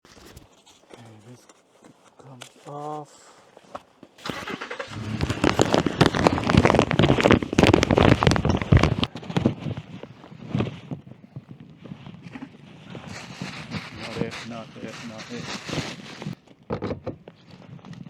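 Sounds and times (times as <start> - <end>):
rustling on microphone: 0.0 - 18.0.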